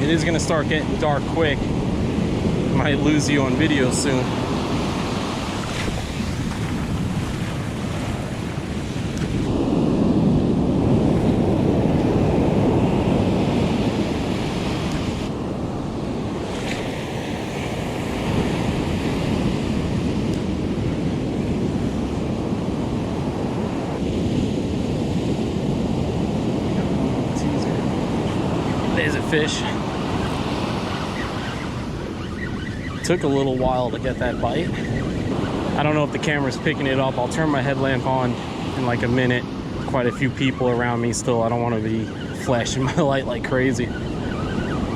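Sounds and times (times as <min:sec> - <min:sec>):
ocean surf breaking on beach: 0:00.0 - 0:44.9
wind buffeting microphone: 0:00.0 - 0:44.9.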